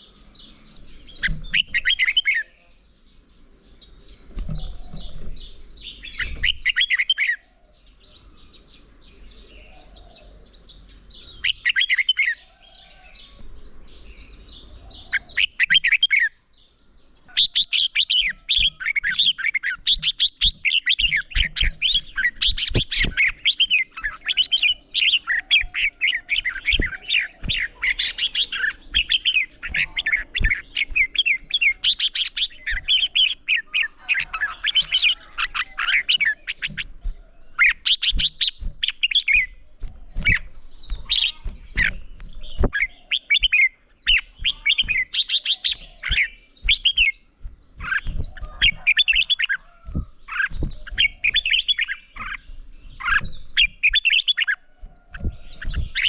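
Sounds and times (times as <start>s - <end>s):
bulbuls singing: 0.0s - 56.0s.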